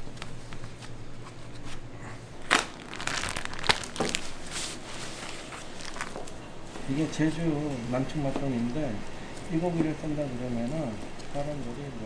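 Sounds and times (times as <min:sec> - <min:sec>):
crinkling handling noise: 0:00.0 - 0:12.0.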